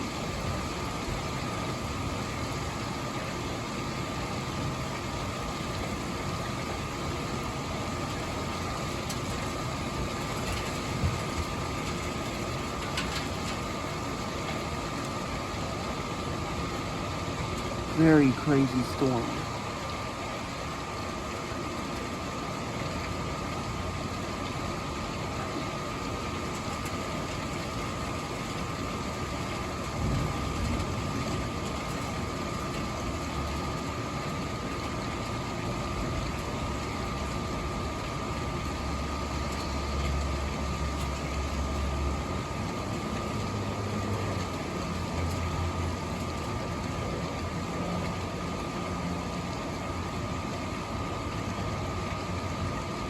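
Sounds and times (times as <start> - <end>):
constant high hum: 0.0 - 53.0
rain: 0.0 - 53.0
wind: 0.0 - 53.0.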